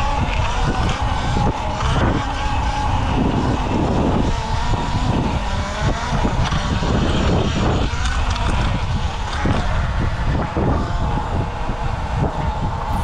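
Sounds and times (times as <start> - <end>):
electric motor whine: 0.0 - 13.0
wind rumble on microphone: 0.0 - 13.0.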